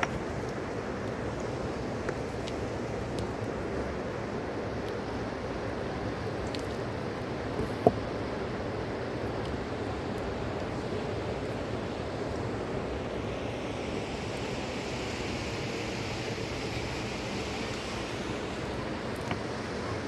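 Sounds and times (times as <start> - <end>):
mountain river rushing: 0.0 - 20.0.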